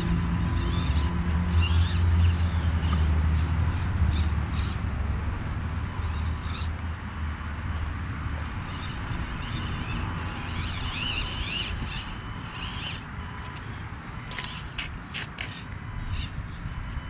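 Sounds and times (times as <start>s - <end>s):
steady low hum: 0.0s - 17.0s
toy motor and gears whining: 0.0s - 17.0s.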